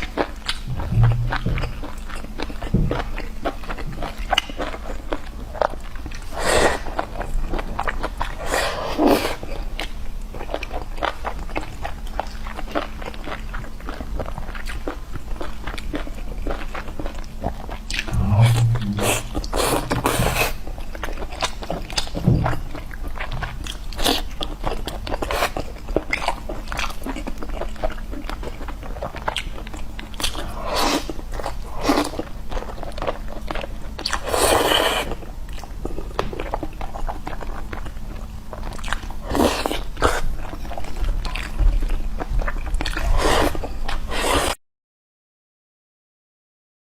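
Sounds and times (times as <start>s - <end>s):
person chewing crunchy food: 0.0s - 44.6s.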